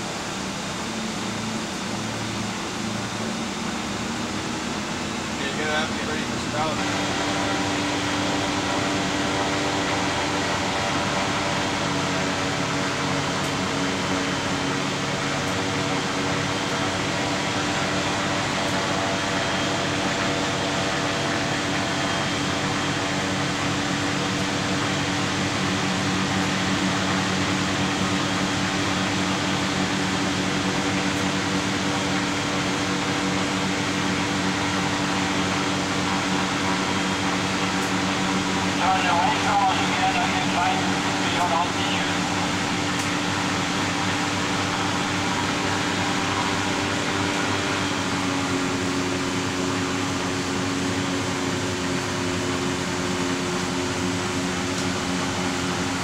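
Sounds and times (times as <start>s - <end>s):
aircraft engines droning: 0.0s - 56.0s.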